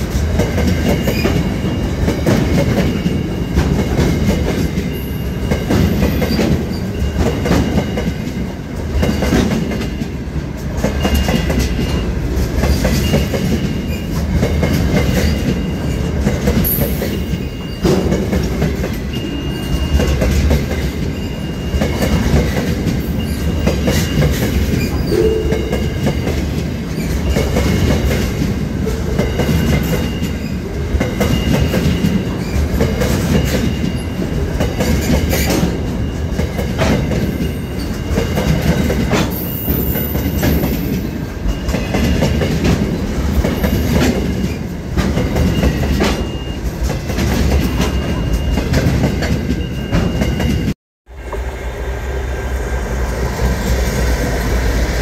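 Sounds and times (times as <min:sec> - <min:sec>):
clickety-clack over rail joints: 0:00.0 - 0:51.5
train wheel and rail rumble: 0:00.0 - 0:55.0.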